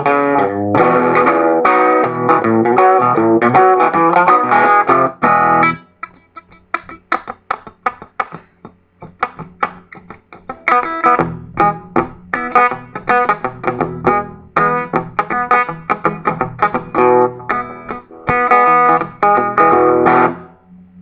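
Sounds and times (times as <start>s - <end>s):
electric guitar blues: 0.0s - 20.6s.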